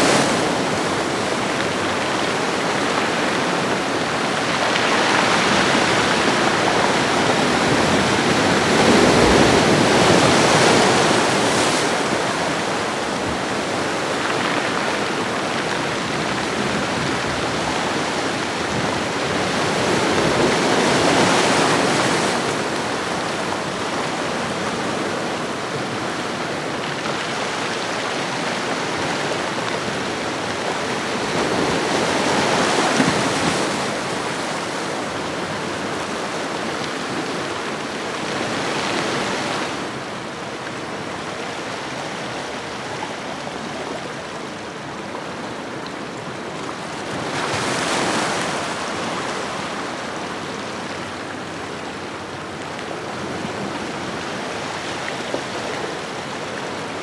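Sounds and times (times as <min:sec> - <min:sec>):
ocean waves washing onto shore: 0:00.0 - 0:57.0.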